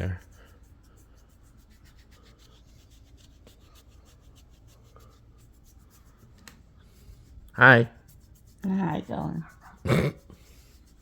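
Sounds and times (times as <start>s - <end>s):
fist rubbing hair and skin: 0.0s - 11.0s.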